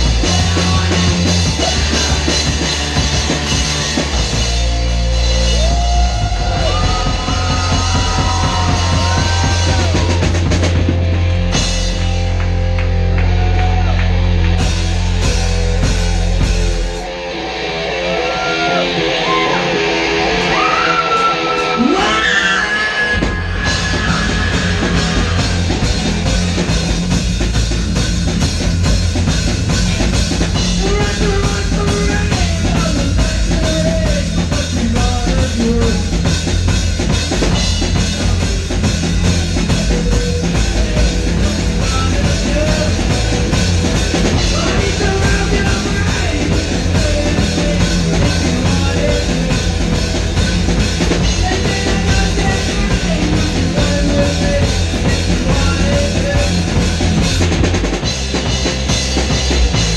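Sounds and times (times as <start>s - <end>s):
bass guitar: 0.0s - 59.9s
drum kit: 0.0s - 59.9s
rock band playing loud: 0.0s - 59.9s.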